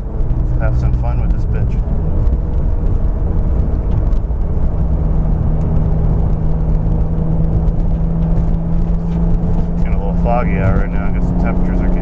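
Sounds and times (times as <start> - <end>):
car engine drone: 0.0 - 12.0
road and tyre noise: 0.0 - 12.0.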